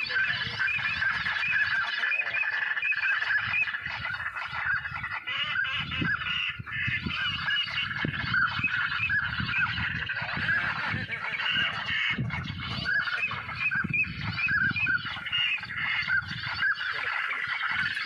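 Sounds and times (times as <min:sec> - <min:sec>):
waterfowl honking: 0:00.0 - 0:18.0.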